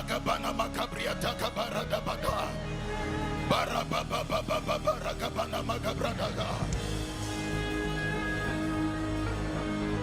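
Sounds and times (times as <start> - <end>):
soft instrumental worship music: 0.0 - 10.0.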